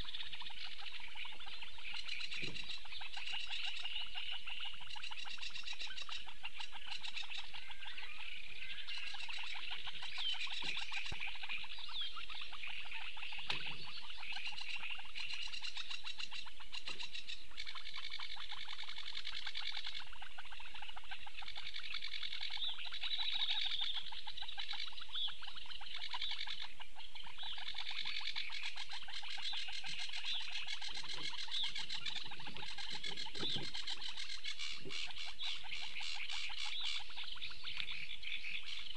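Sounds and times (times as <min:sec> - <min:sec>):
birds calling: 0:00.0 - 0:38.9
frogs calling: 0:00.0 - 0:38.9.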